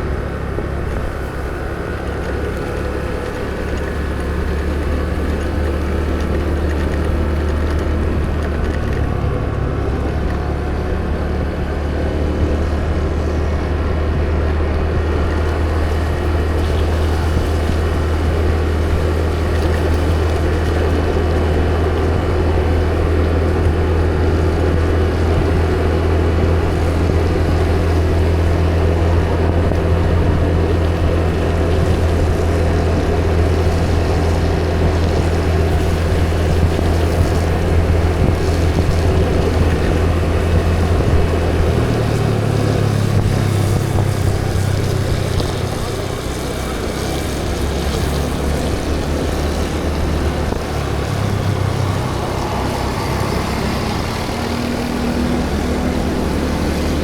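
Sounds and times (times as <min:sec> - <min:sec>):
road and wind noise: 0:00.0 - 0:57.0
vehicle engine drone: 0:00.0 - 0:57.0.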